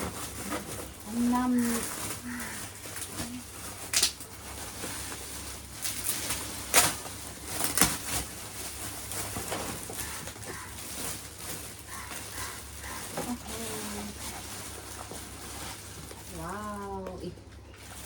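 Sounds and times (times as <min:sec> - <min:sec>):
packaging rustling and crinkling: 0:00.0 - 0:18.0.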